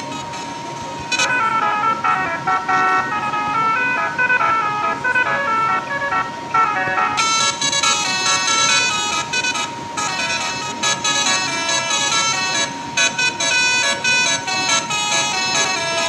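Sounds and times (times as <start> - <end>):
bus horn melody: 0.0 - 16.0
steady high tone: 0.0 - 16.0.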